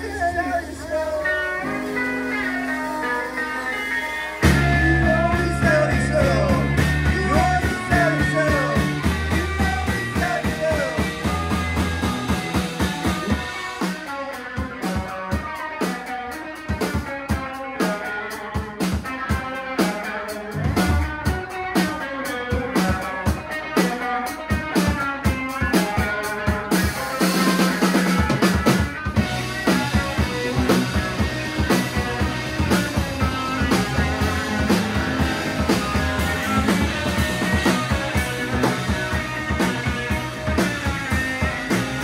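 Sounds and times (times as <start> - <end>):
rock band playing: 0.0 - 42.0.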